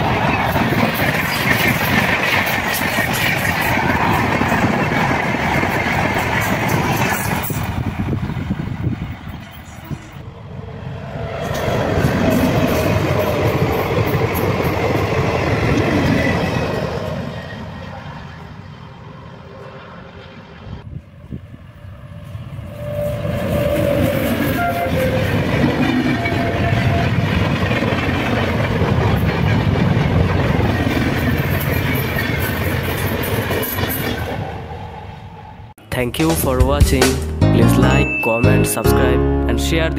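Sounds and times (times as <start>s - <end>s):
trains passing with wheel clatter: 0.0s - 35.8s.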